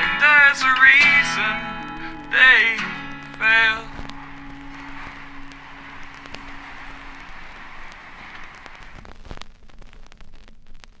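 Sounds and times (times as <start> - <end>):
guitar note: 0.0 - 8.9
vinyl record hiss and crackle: 0.0 - 11.0.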